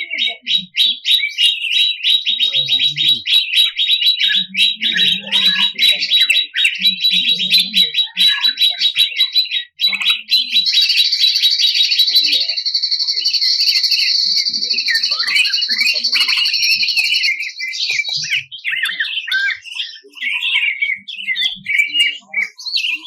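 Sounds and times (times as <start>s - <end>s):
bird chirps and whistles: 0.0s - 23.0s
bird singing rattling trill: 0.0s - 23.0s.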